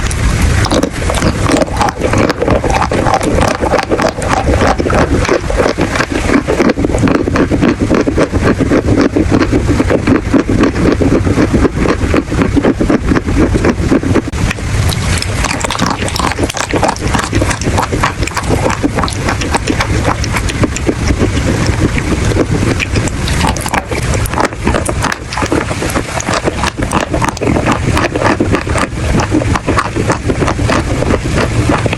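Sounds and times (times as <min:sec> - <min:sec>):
chalk being chewed: 0:00.0 - 0:31.9.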